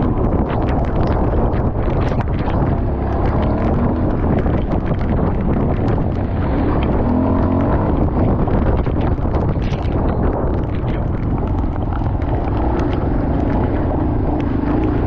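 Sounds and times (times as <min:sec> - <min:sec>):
motorcycle engine running: 0:00.0 - 0:15.0
small clicks: 0:00.0 - 0:15.0
wind rumble on microphone: 0:00.0 - 0:15.0.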